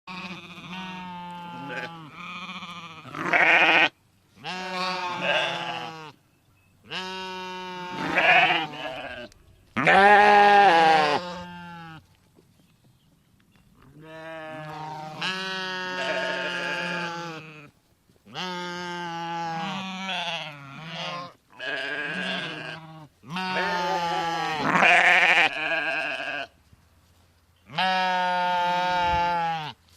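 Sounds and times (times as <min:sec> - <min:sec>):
sheep bleating: 0:00.1 - 0:06.2, 0:06.9 - 0:12.1, 0:14.0 - 0:17.7, 0:18.3 - 0:26.6, 0:27.7 - 0:29.8.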